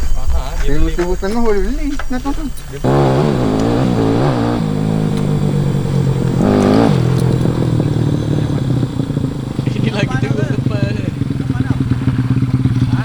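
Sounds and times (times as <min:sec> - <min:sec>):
small motorcycle engine revving: 0:01.5 - 0:13.0.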